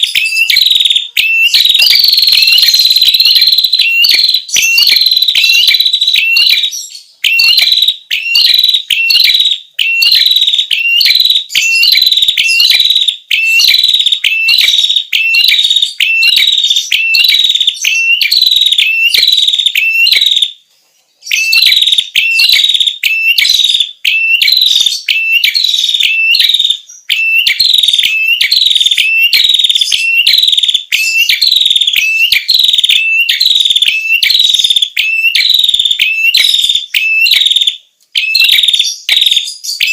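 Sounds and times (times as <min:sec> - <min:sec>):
bird song sharp chirping notes: 0:00.0 - 0:39.9.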